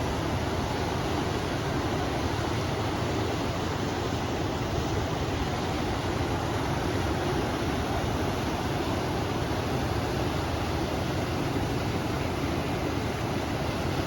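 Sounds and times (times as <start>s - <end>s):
river water rushing: 0.0s - 14.0s
wind: 0.0s - 14.0s.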